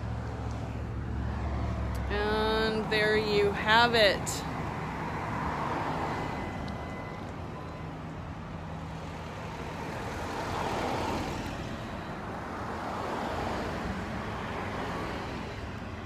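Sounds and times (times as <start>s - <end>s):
traffic hum: 0.0s - 16.0s.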